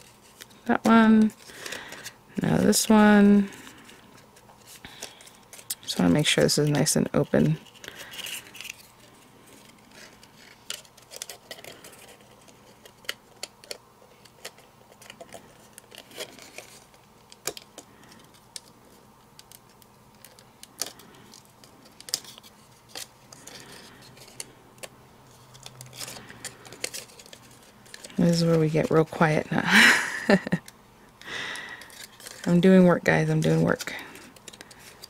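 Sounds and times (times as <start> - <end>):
cardstock clicks and rustles: 0.0 - 29.5, 30.3 - 35.0.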